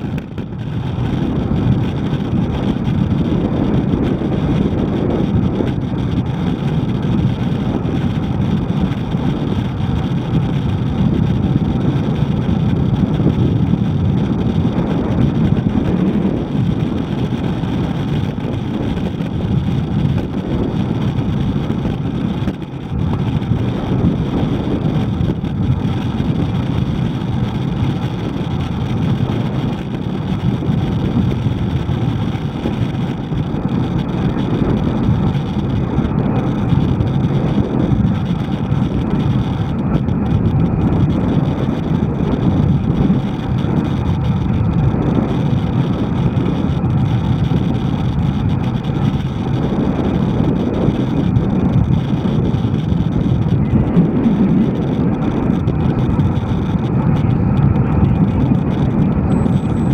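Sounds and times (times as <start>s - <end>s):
road and traffic noise: 0.0s - 59.9s
wind rushing on microphone: 0.0s - 59.9s.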